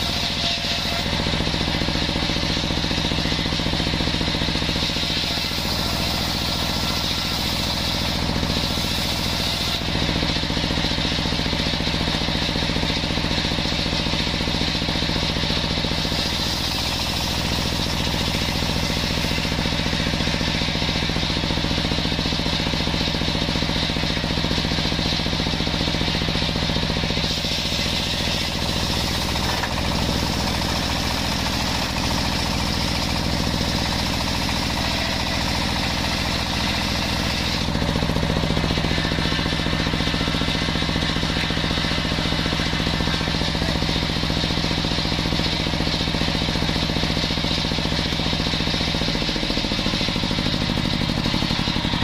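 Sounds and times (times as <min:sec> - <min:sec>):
circular saw cutting wood: 0:00.0 - 0:52.0.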